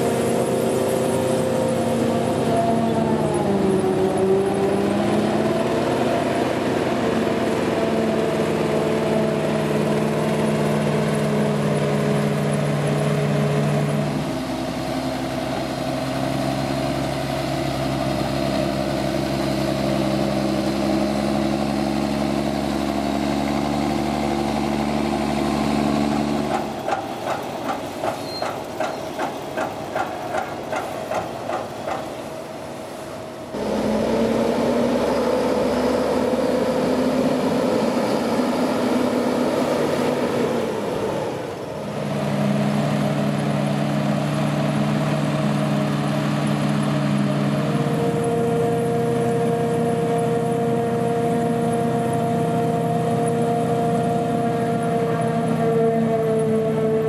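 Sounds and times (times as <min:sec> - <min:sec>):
harvester engine drone: 0:00.0 - 0:57.0
tractor engine humming: 0:00.0 - 0:57.0.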